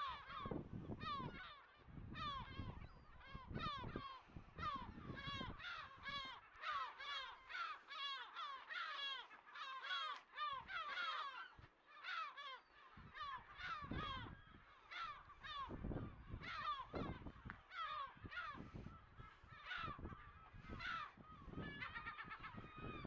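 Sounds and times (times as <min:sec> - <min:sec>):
gulls calling in chorus: 0:00.0 - 0:23.0.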